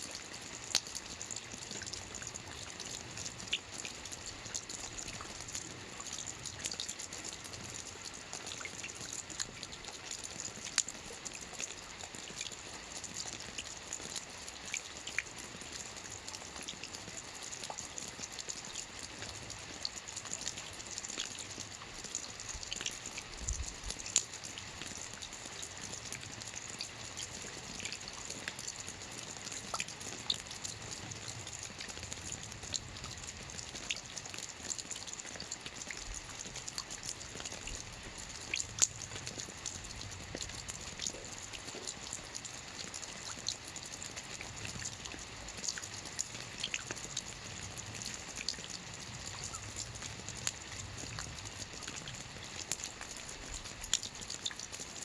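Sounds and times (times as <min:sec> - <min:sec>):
rain falling on water: 0:00.0 - 0:55.0.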